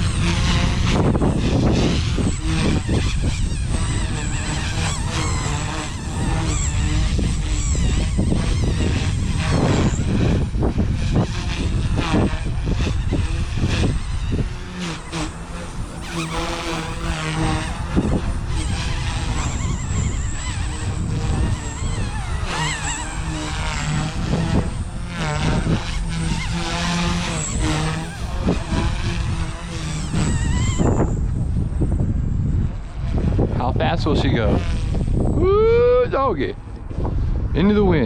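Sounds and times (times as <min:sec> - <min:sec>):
rc helicopter motor whine: 0:00.0 - 0:38.0
wind on microphone: 0:00.0 - 0:38.0.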